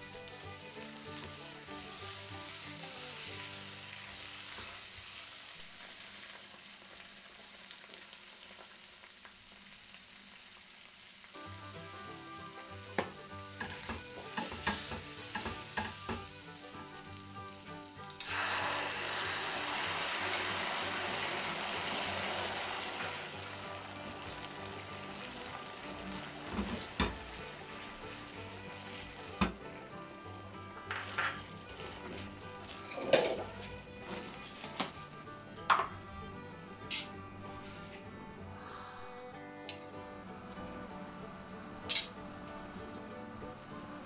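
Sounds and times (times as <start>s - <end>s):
vegetables sizzling in pan: 0.0s - 35.3s
sauce sizzling loudly: 0.0s - 38.0s, 40.1s - 44.0s.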